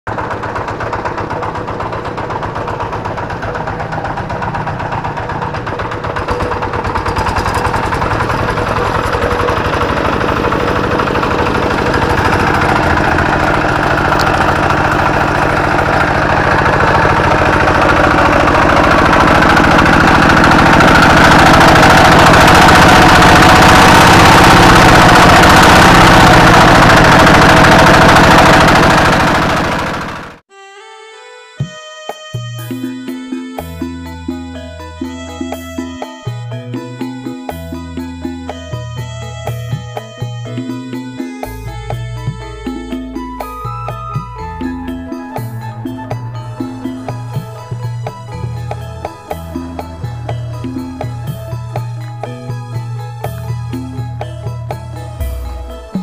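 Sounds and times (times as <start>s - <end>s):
diesel engine running rough: 0.0s - 30.5s, 33.6s - 56.0s.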